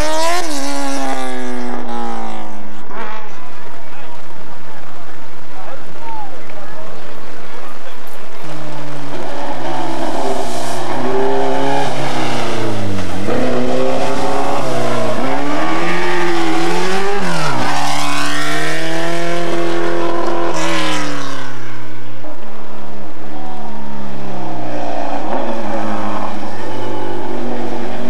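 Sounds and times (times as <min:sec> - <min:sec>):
racing car engine revving: 0:00.0 - 0:28.0.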